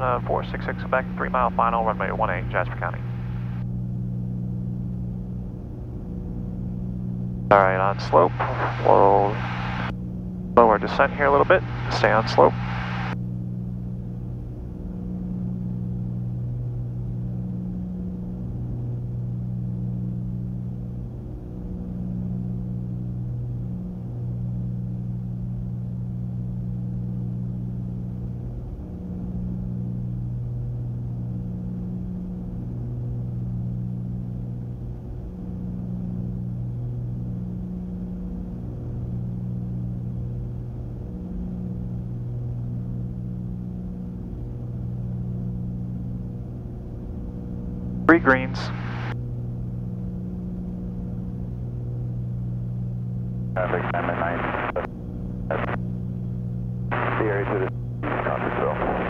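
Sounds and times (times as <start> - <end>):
aircraft engines droning: 0.0 - 59.0.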